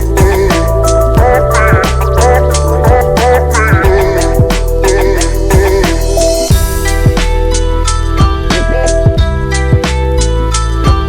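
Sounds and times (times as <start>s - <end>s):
bass line: 0.0s - 11.0s
drums: 0.0s - 11.0s.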